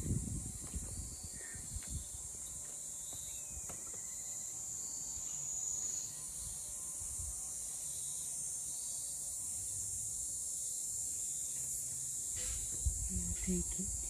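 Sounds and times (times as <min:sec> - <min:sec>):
insect buzzing: 0:00.0 - 0:14.0
insect trill: 0:00.0 - 0:14.0.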